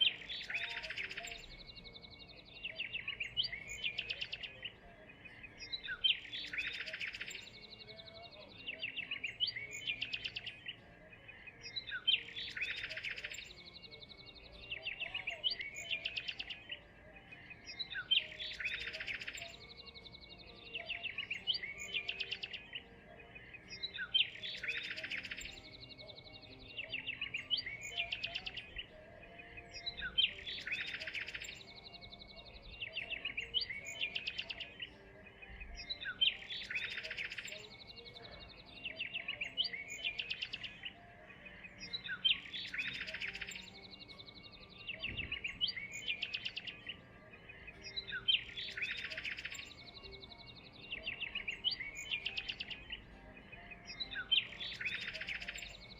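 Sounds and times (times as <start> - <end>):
bird chirps and trill: 0.0 - 55.9.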